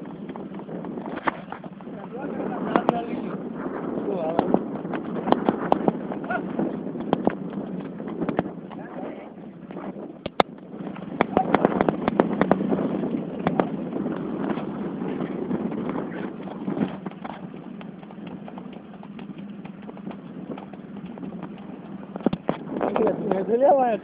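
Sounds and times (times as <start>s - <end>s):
horse hooves clip-clopping: 0.0s - 24.0s.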